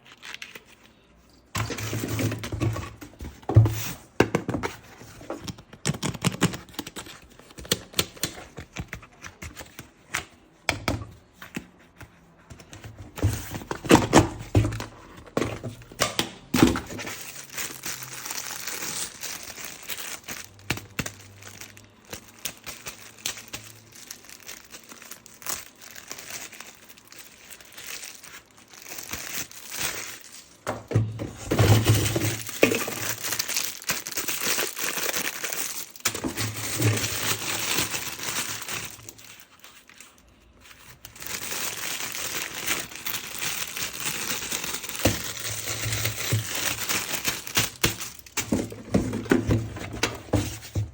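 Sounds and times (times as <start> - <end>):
plastic packaging crinkling and tearing: 0.0 - 3.3, 5.0 - 10.5, 12.6 - 50.9.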